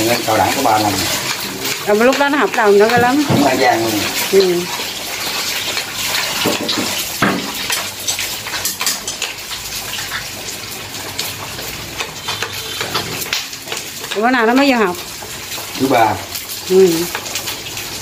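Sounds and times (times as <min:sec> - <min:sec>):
hot oil sizzling and popping: 0:00.0 - 0:18.0.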